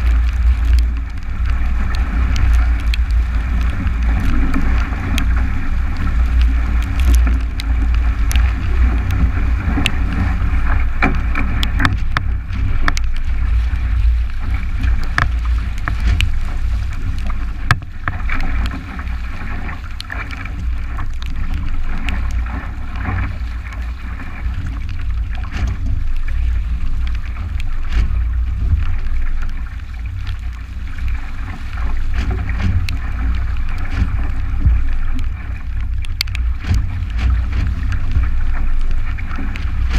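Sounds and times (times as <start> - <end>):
water rushing past hull: 0.0 - 39.9.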